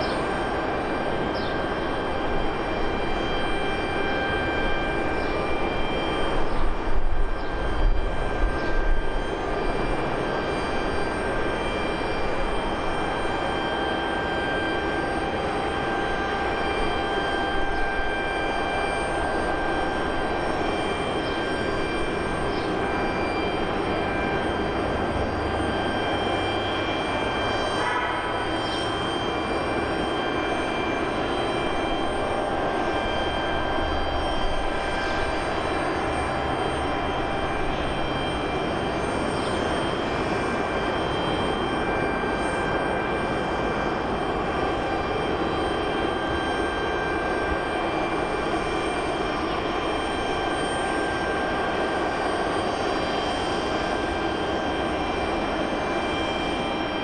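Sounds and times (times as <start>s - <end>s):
jet engines rumbling with whine: 0.0s - 57.0s.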